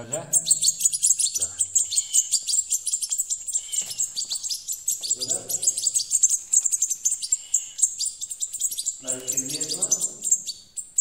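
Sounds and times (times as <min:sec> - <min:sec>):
bird chicks chirping: 0:00.0 - 0:11.0.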